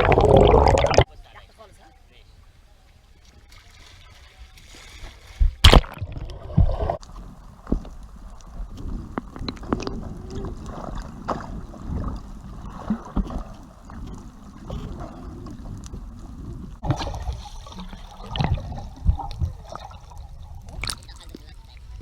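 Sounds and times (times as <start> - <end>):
water sloshing around boat: 2.8 - 22.0.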